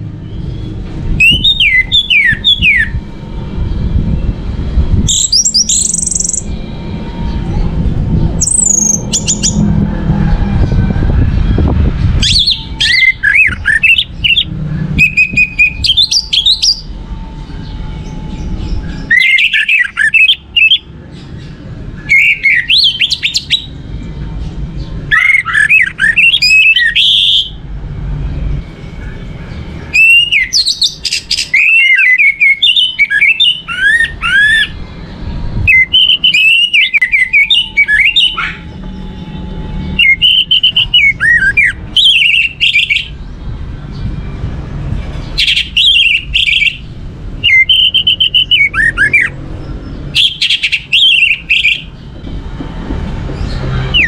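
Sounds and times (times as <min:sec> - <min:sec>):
thrush singing whistled notes: 0:00.2 - 0:27.6, 0:28.3 - 0:44.5, 0:45.2 - 0:52.1, 0:53.4 - 0:54.0.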